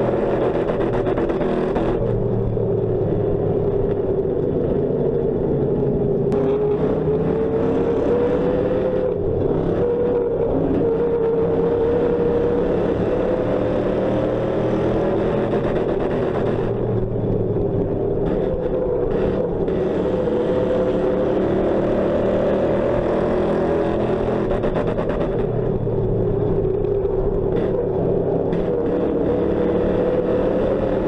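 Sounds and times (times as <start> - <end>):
race car engine running hard: 0.0 - 31.0.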